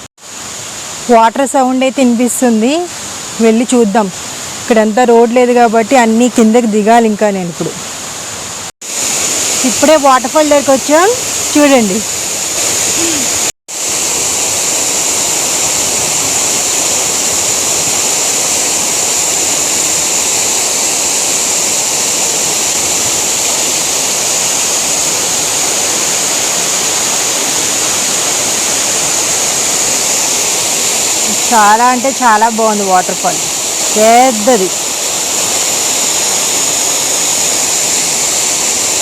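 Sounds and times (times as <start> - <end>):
waterfall rushing: 7.6 - 39.0.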